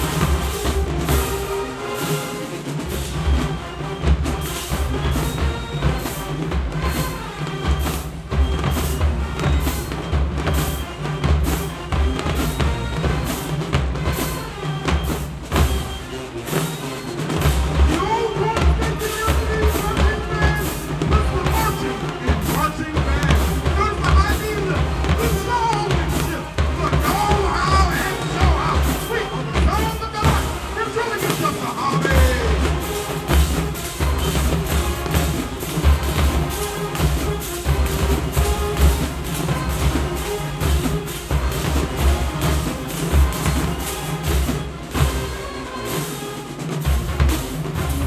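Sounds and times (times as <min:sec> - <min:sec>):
horns playing melody: 0:00.0 - 0:48.0
marching band drums: 0:00.0 - 0:48.0.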